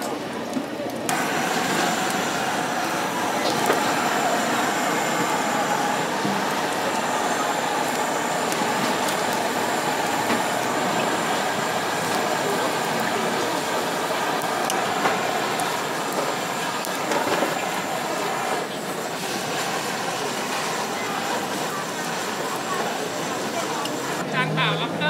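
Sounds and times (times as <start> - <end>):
blow torch hissing: 1.1 - 24.2.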